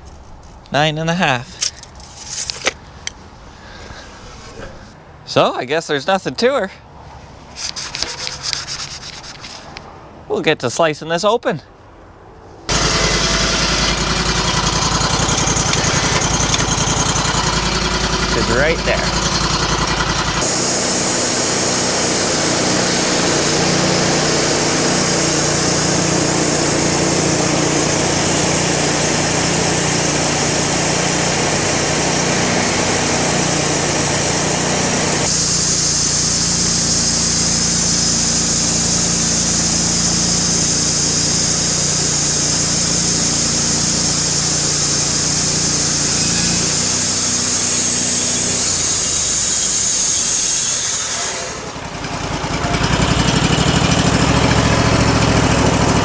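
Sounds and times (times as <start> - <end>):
sawmill cutting log: 7.6 - 9.4, 12.7 - 56.0.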